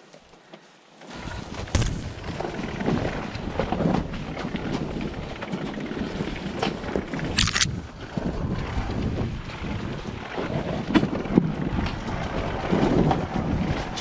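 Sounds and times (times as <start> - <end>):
dirt bike engine rumble: 1.1 - 14.0
wind buffeting microphone: 1.2 - 14.0.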